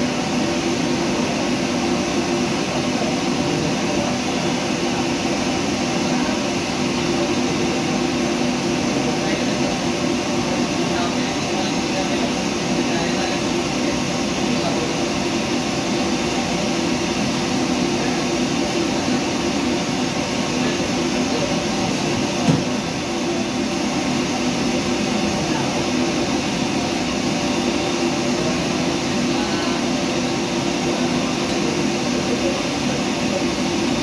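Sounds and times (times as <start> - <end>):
exhaust fan rushing: 0.0 - 34.0.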